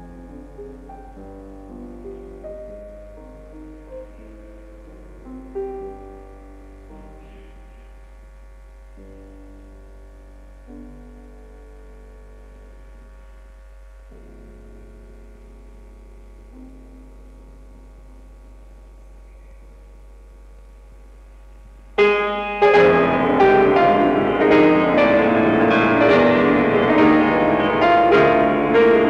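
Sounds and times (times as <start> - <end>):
low mains hum: 0.0 - 29.0
piano chords: 0.0 - 29.0.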